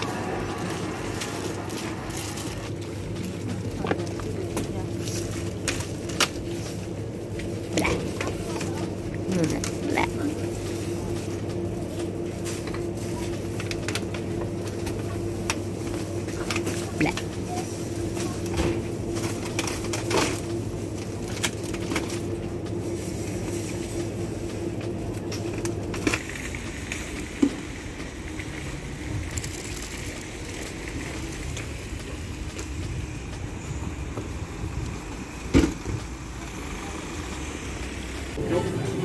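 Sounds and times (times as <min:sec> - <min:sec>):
road traffic rumble: 0:00.0 - 0:39.0
supermarket hum: 0:00.0 - 0:39.0.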